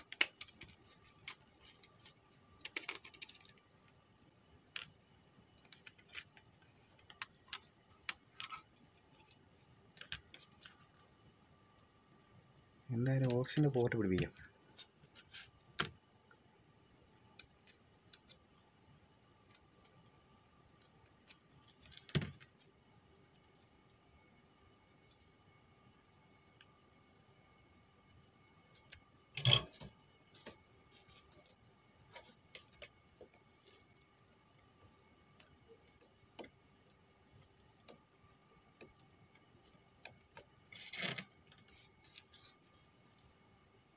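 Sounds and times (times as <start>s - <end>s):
faint electrical hum: 0.0s - 43.9s.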